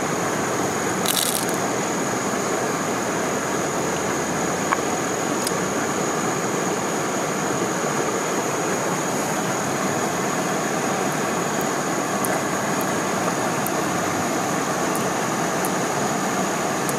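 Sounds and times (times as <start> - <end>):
stream water rushing: 0.0 - 16.9.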